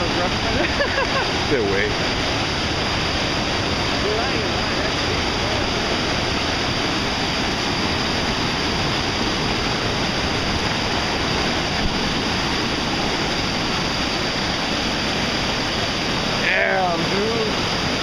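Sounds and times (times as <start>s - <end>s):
river rapids rushing over boulders: 0.0s - 18.0s.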